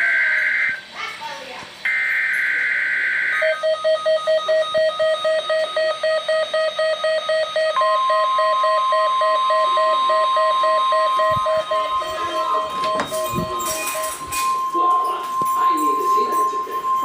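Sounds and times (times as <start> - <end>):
radio alarm beeping: 0.0 - 0.9, 1.9 - 17.0
steady broadcast tone: 1.8 - 17.0
digital header tones buzz: 1.9 - 17.0.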